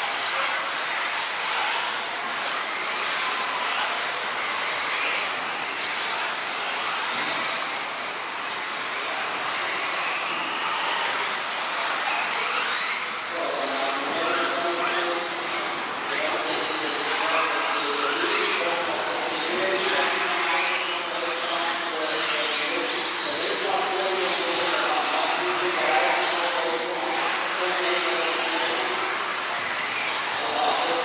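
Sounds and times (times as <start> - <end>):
rc car electric motors whining: 0.0 - 31.0.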